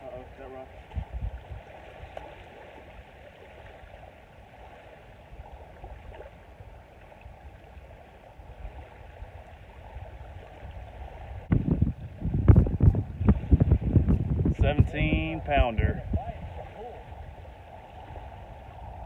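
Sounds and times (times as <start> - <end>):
small waves lapping on shore: 0.0 - 19.0
wind on microphone: 0.0 - 19.0.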